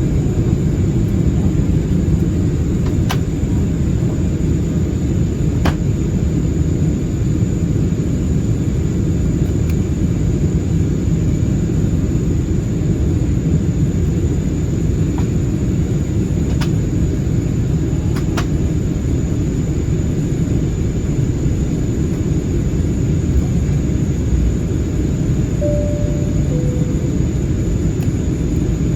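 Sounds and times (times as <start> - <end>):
airplane cabin rumble: 0.0 - 7.4, 11.6 - 28.9.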